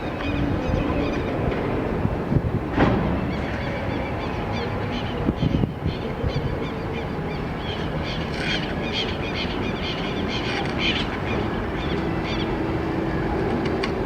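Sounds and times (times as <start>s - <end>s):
freight train low rumble: 0.0s - 14.0s.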